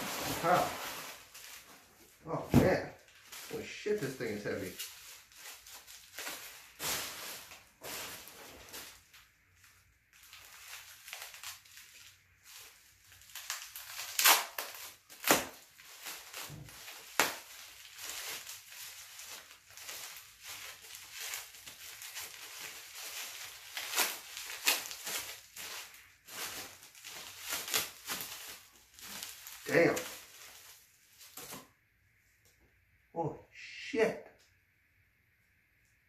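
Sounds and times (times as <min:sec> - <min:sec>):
plastic wrap crinkling: 0:00.0 - 0:31.8.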